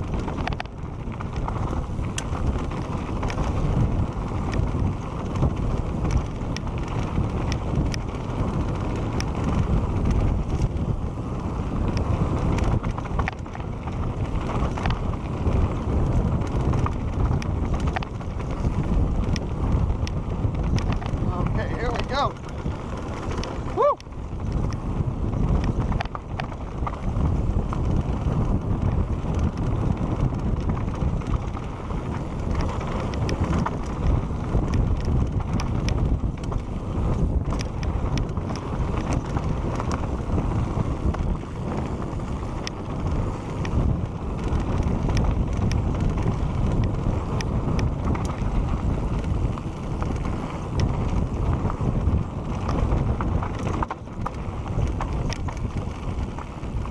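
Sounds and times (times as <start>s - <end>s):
bike chain and frame rattling: 0.0s - 56.9s
tyres rolling on dirt: 0.0s - 56.9s
wind buffeting microphone: 0.0s - 56.9s.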